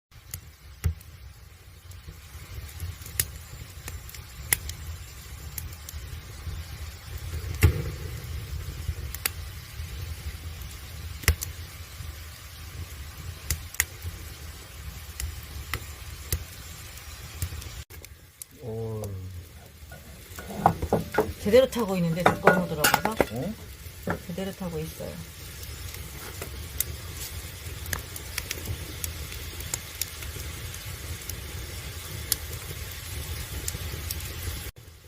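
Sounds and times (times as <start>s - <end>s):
firewood crackling and popping: 0.1s - 35.0s
steady low rumble of fire: 0.2s - 35.0s.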